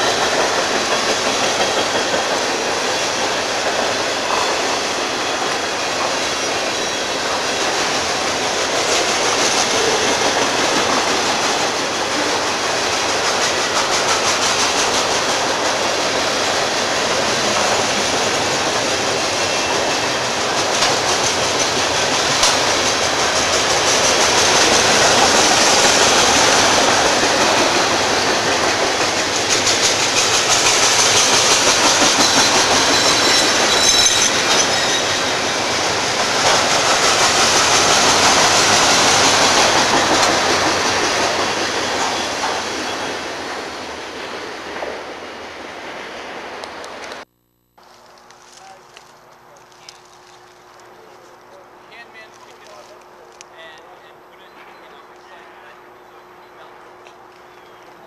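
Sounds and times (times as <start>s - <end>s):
train wheels clacking on rails: 0.0s - 47.2s.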